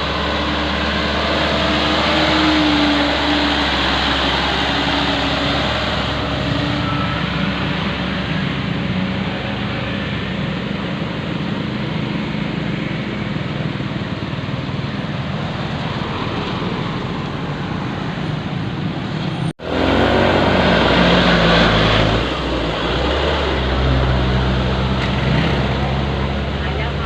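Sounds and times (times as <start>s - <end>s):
dump truck diesel engine running: 0.0s - 27.0s.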